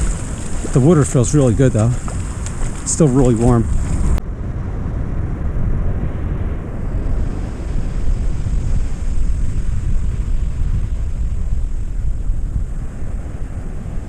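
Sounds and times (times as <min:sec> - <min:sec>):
surf breaking on beach: 0:00.0 - 0:04.2, 0:06.8 - 0:14.0
wind buffeting microphone: 0:00.0 - 0:14.0.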